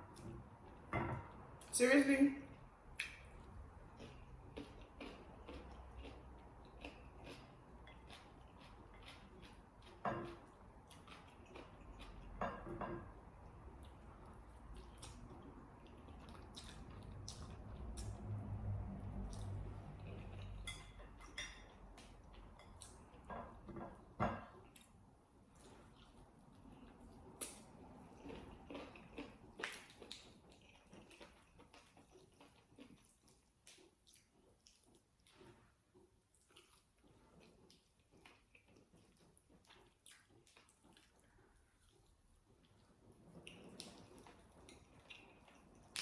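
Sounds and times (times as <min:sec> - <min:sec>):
wet chewing: 0:03.0 - 0:12.4, 0:13.6 - 0:21.4, 0:24.7 - 0:46.0.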